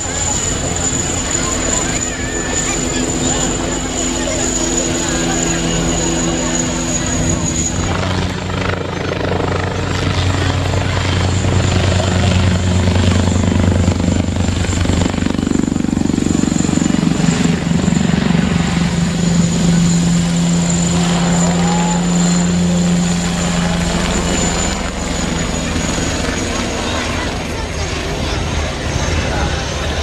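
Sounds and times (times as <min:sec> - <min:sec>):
helicopter rotor drone: 0:00.0 - 0:30.0
turbine whine: 0:00.0 - 0:30.0.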